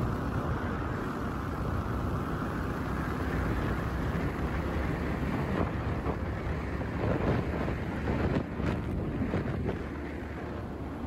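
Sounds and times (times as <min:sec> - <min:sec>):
moving road vehicle: 0:00.0 - 0:11.0
wind rumble on microphone: 0:00.0 - 0:11.0.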